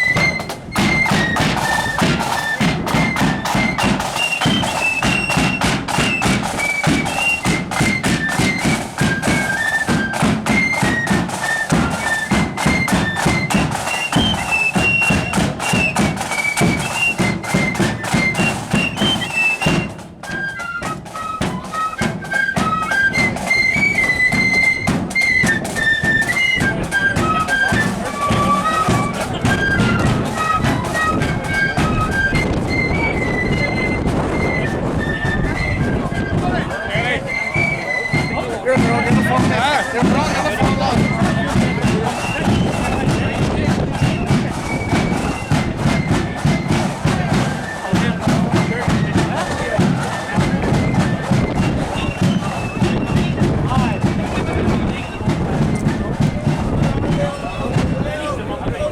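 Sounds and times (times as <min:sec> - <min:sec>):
flutes playing high melody: 0:00.0 - 0:58.9
steady drum beats: 0:00.0 - 0:58.9.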